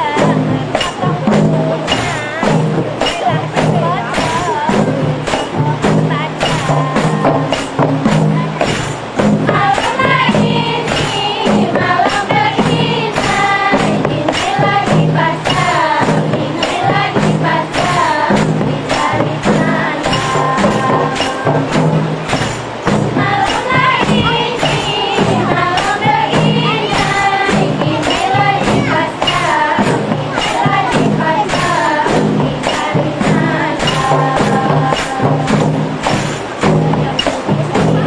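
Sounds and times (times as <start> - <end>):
frame drums beating: 0.0 - 38.0
group singing: 0.0 - 38.0.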